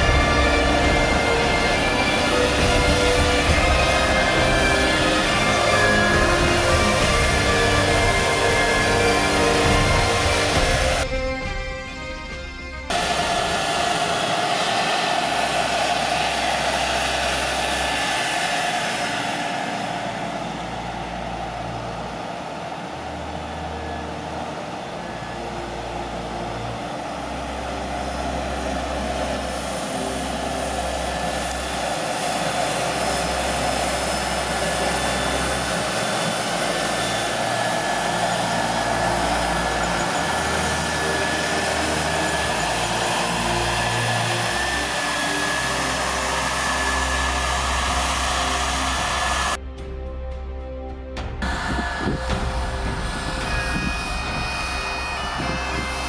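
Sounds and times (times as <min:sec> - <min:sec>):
tractor diesel engine under load: 0:00.0 - 0:11.0, 0:12.9 - 0:49.6
mechanical whine: 0:00.0 - 0:49.6, 0:51.4 - 0:56.0.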